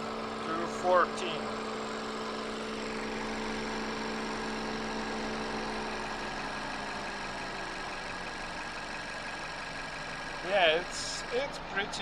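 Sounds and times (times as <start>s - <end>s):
air conditioning running: 0.0s - 7.7s, 9.8s - 12.0s
car engine idling: 0.0s - 12.0s.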